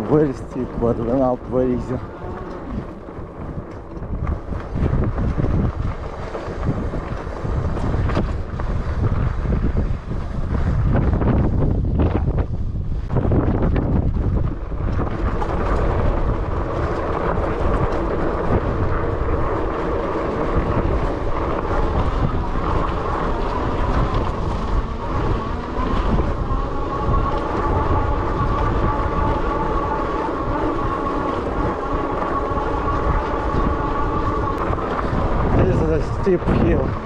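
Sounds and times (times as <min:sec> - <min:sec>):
electric motor whining: 0:00.0 - 0:09.8, 0:13.2 - 0:37.0
tyres rumbling on dirt: 0:00.0 - 0:37.0.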